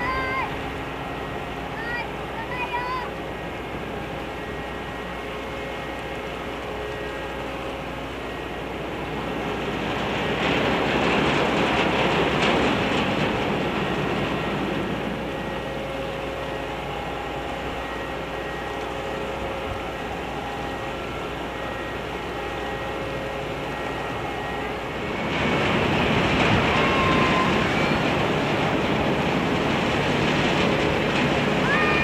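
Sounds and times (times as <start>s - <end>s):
ferry engine hum: 0.0s - 32.0s.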